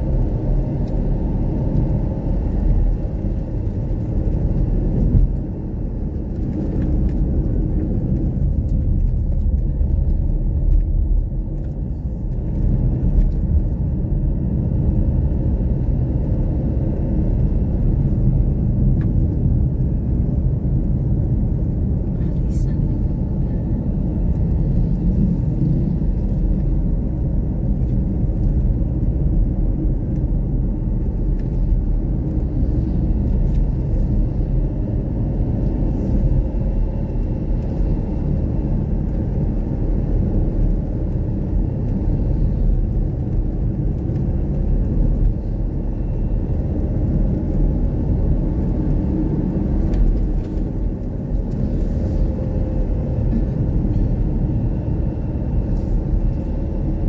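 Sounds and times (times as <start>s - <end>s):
road vehicle rumble from on board: 0.0s - 57.0s.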